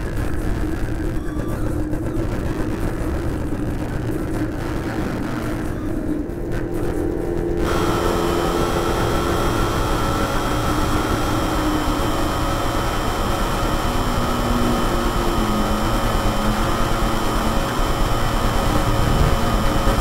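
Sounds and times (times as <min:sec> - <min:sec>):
electronic noise drone: 0:00.0 - 0:20.0
faint low electronic tones: 0:00.0 - 0:20.0
high electronic tones: 0:00.5 - 0:20.0.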